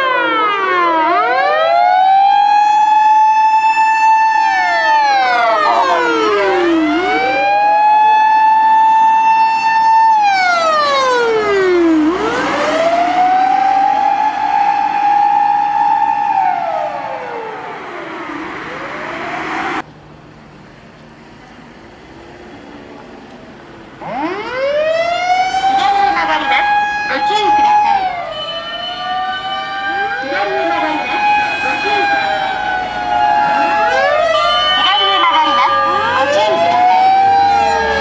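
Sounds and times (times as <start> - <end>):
fire truck siren wailing: 0.0 - 19.8, 24.0 - 38.0.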